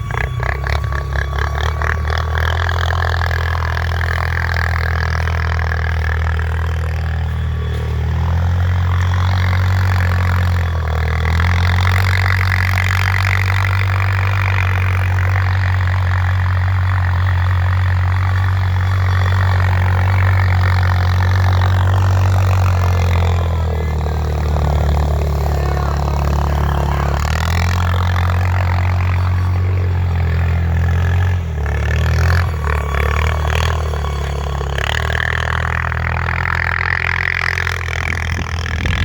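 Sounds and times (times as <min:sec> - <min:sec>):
atv engine running under load: 0:00.0 - 0:39.0.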